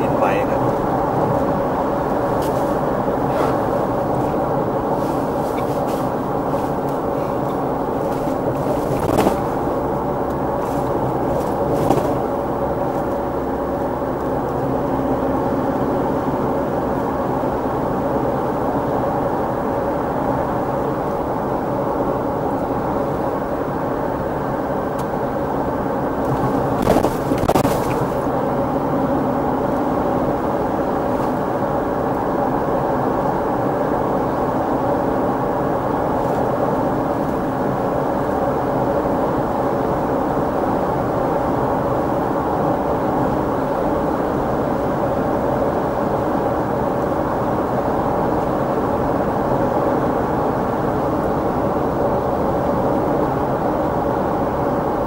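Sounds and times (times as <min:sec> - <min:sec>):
muffled road and engine noise: 0:00.0 - 0:55.0.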